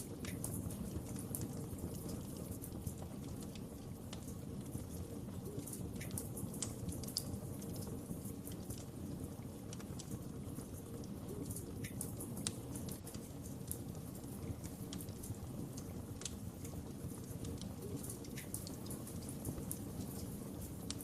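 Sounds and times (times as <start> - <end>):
fire pops and snaps: 0.0 - 21.0
low rush of flames: 0.0 - 21.0.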